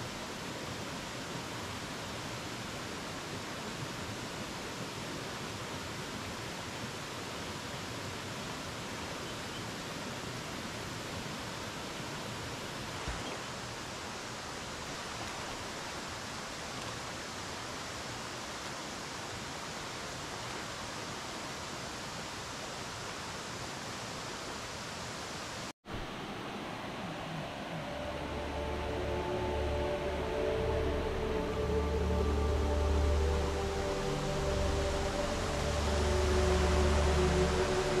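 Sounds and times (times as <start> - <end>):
stream water rushing over rocks: 0.0 - 38.0.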